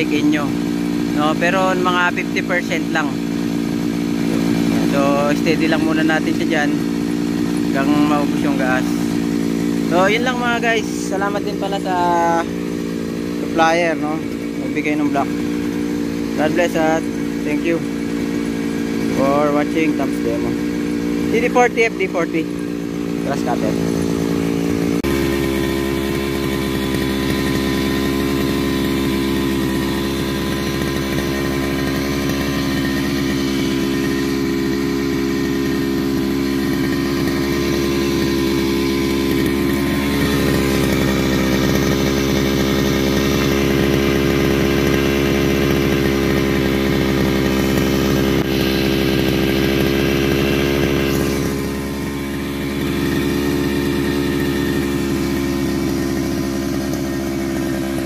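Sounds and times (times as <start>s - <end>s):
two-stroke brushcutter engine running: 0.0s - 58.0s.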